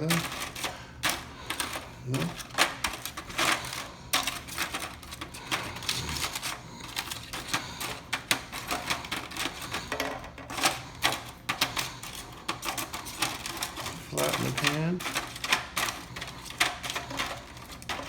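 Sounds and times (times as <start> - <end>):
wafer cookies clicking on a pan: 0.0 - 18.0.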